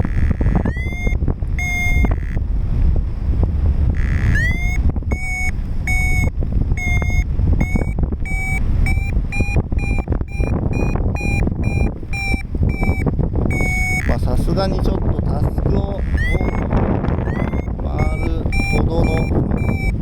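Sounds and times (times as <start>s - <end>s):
variometer beeping: 0.0s - 2.5s, 3.8s - 20.0s
wind rumbling on microphone: 0.0s - 20.0s.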